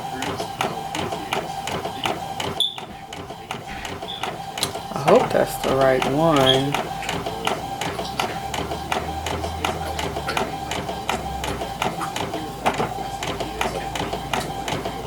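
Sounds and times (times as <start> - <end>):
inkjet printer whining: 0.0 - 15.0
printer carriage clicks: 0.0 - 15.0.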